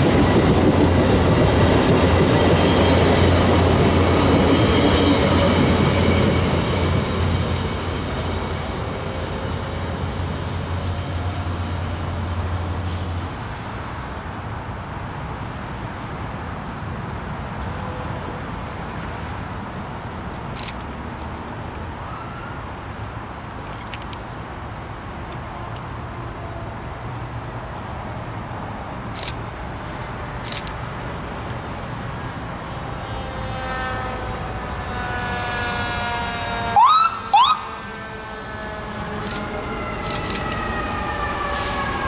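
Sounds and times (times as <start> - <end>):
train rolling past: 0.0 - 42.0.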